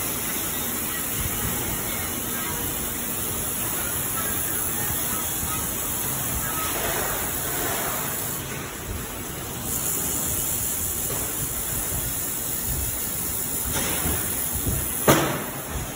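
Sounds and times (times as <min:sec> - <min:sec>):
steady rushing noise: 0:00.0 - 0:15.9.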